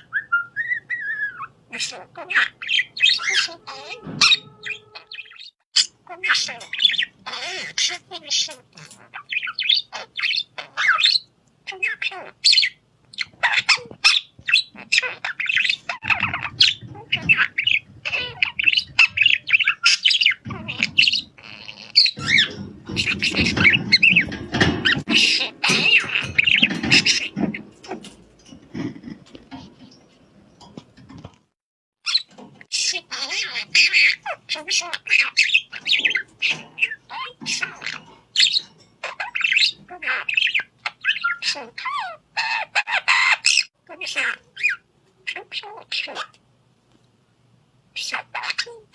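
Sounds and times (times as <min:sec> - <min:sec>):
parrots chirping and squawking: 0:00.0 - 0:31.3, 0:32.0 - 0:46.4, 0:47.9 - 0:48.9.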